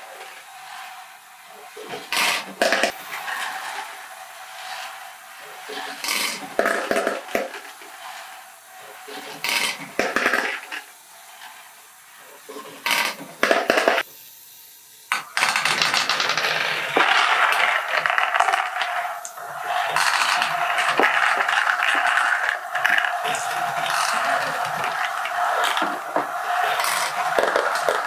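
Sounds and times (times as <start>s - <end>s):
plastic balls clattering and rolling: 0.0s - 14.1s, 15.1s - 28.0s.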